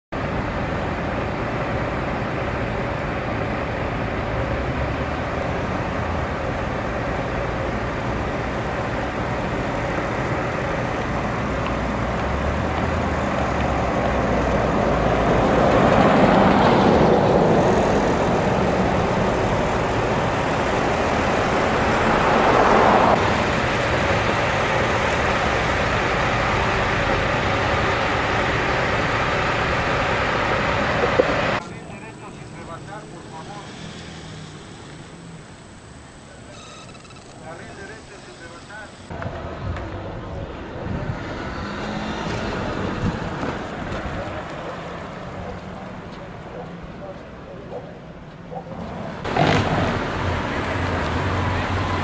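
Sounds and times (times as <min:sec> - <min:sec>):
highway road noise: 0:00.1 - 0:52.0
vehicles passing: 0:00.2 - 0:36.4, 0:37.2 - 0:52.0.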